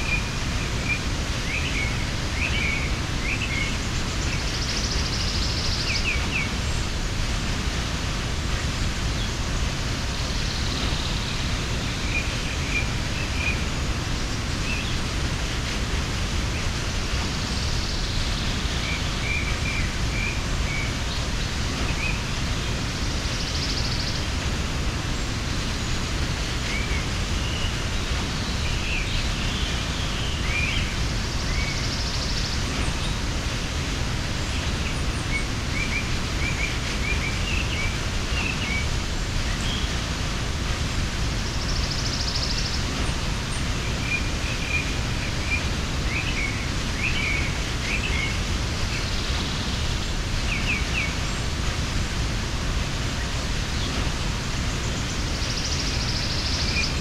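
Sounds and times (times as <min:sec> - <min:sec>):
small birds chirping: 0:00.0 - 0:57.0
waterfall rushing: 0:00.0 - 0:57.0.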